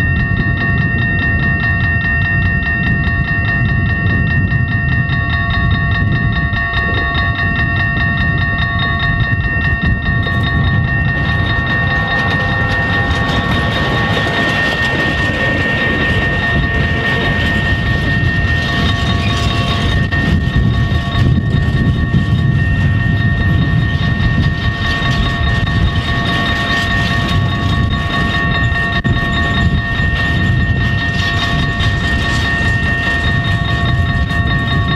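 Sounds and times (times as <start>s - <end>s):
level crossing bells ringing: 0.0s - 34.9s
train rolling across crossing: 0.0s - 34.9s
locomotive engine low rumble: 2.5s - 34.9s.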